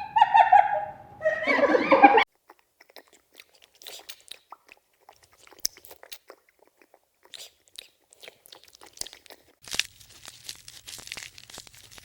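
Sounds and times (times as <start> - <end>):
animal chewing feed: 2.3 - 12.0.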